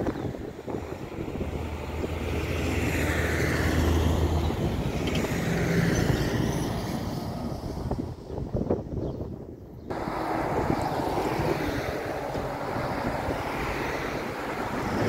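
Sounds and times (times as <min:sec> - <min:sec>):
jet airliner engines rumbling: 0:00.0 - 0:15.0
road traffic: 0:00.0 - 0:15.0.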